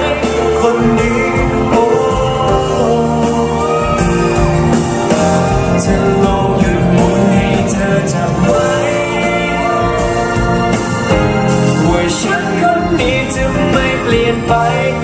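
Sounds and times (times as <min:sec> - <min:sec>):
backing music: 0:00.0 - 0:15.0
person singing: 0:00.0 - 0:15.0.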